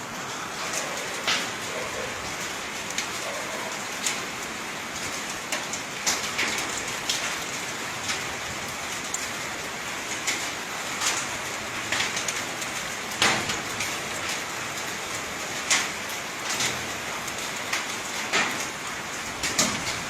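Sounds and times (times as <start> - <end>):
rain pattering on surfaces: 0.0 - 20.0.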